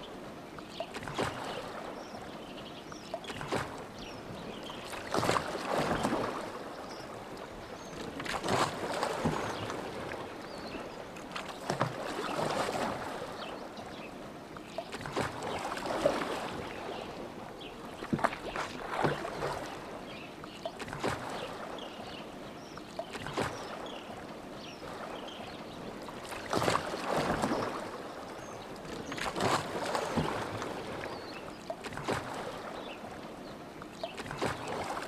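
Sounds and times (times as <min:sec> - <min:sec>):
oars splashing in water: 0:00.6 - 0:35.0.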